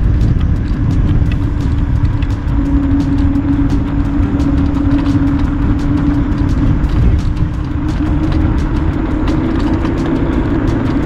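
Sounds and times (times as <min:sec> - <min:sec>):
electric scooter motor whine: 0:00.0 - 0:11.0
wind buffeting microphone: 0:00.0 - 0:11.0.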